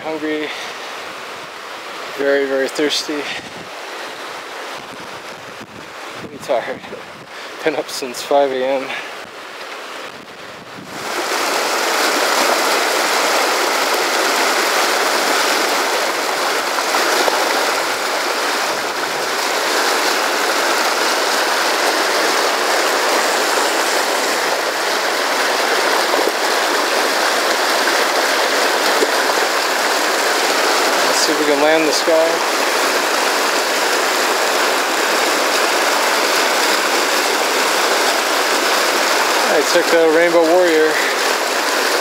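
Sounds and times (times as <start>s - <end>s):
river rapids rushing over rocks: 0.0s - 42.0s.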